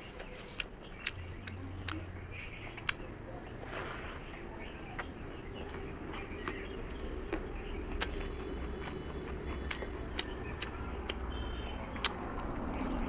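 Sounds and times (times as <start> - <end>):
wet chewing mouth clicks: 0.1 - 13.0.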